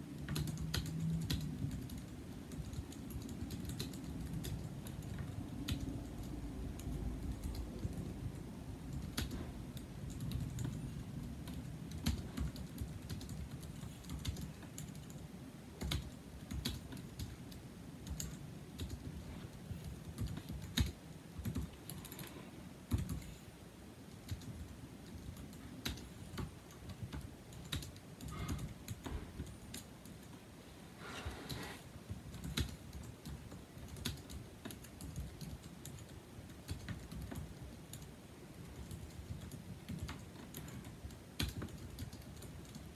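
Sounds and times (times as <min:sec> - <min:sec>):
keyboard typing clicks: 0:00.2 - 0:08.2, 0:08.8 - 0:15.2, 0:15.8 - 0:23.4, 0:24.2 - 0:30.4, 0:32.3 - 0:38.1, 0:38.8 - 0:42.9.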